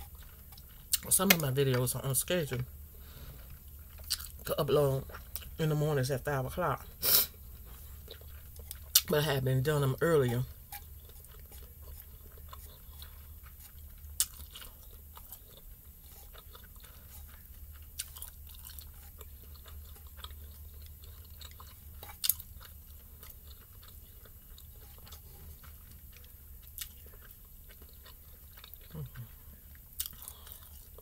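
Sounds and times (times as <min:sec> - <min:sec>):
low steady hum: 0:00.0 - 0:31.0
person chewing noodles: 0:00.0 - 0:31.0.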